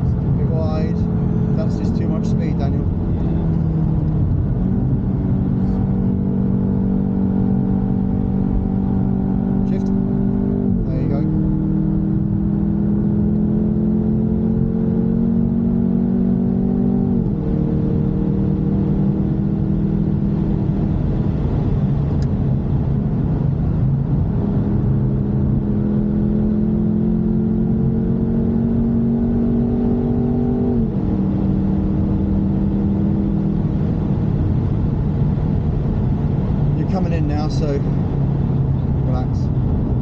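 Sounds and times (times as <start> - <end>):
car engine accelerating: 0.0 - 40.0
road and tyre noise: 0.0 - 40.0.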